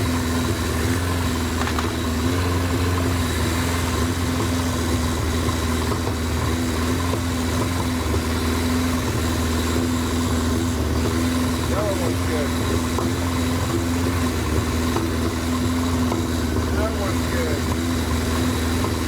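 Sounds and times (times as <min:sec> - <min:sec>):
motorcycle engine idling: 0:03.7 - 0:19.0.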